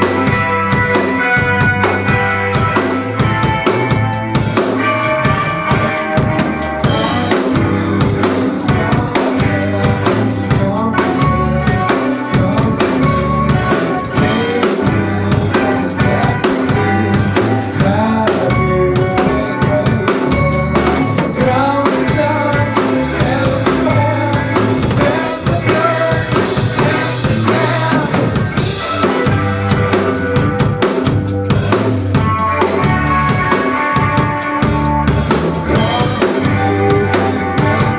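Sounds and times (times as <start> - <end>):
bass line: 0.0 - 37.9
drum kit beat: 0.0 - 37.9.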